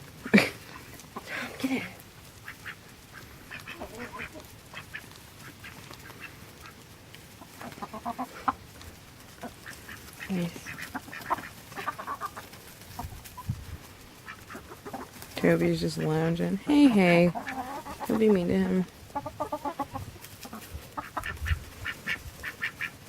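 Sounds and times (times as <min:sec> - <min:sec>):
chickens clucking: 0:00.0 - 0:23.0
ducks quacking: 0:00.2 - 0:23.0.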